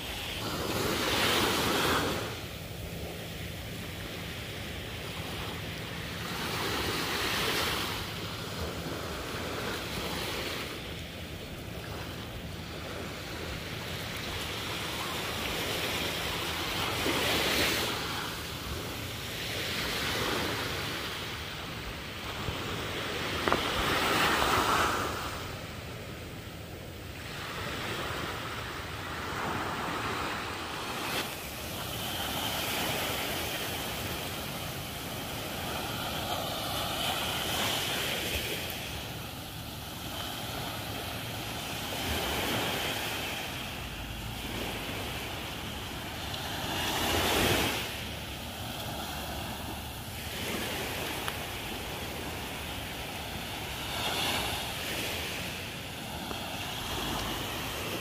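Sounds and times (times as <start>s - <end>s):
small waves breaking on sand: 0.0s - 58.0s.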